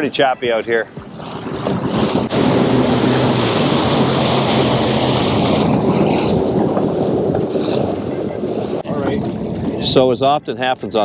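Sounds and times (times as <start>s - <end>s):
personal watercraft running: 0.0s - 11.0s
wind buffeting microphone: 0.0s - 11.0s.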